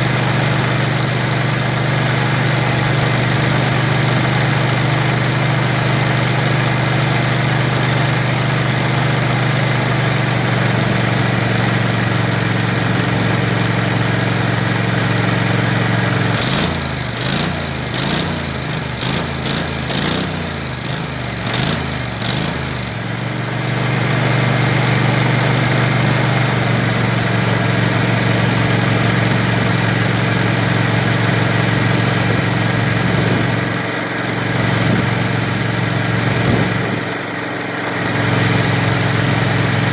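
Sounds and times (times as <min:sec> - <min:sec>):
engine idling: 0:00.0 - 0:39.9
engine pops and stumbles: 0:00.0 - 0:39.9.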